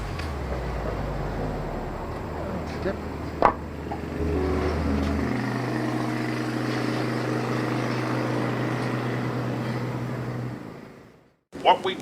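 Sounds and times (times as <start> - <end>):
motorcycle engine running: 0.2 - 10.6.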